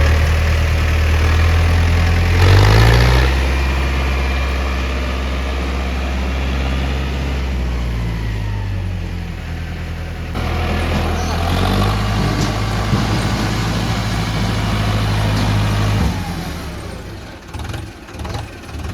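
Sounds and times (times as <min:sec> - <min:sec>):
heavy diesel engine revving: 0:00.0 - 0:18.9.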